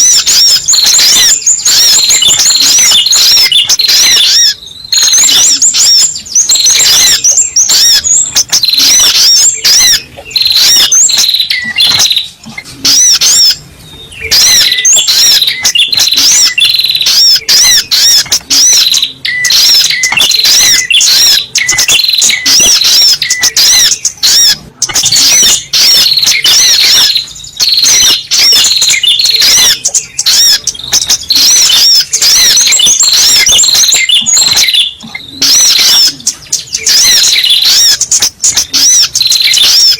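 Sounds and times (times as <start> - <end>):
rapid sharp high bird chirps: 0.0 - 39.9.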